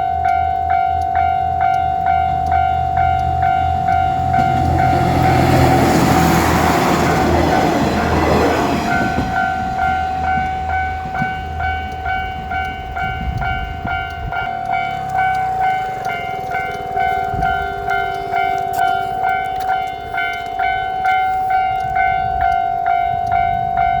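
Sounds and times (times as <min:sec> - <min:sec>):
diesel train rumbling: 0:00.0 - 0:24.0
railroad crossing alarm ringing: 0:00.0 - 0:24.0.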